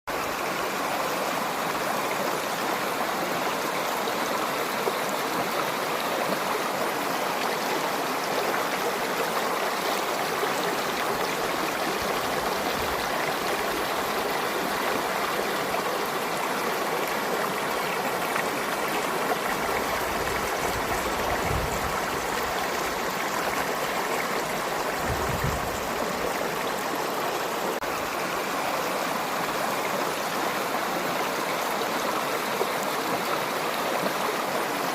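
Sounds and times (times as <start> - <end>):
stream flowing over rocks: 0.1 - 34.9.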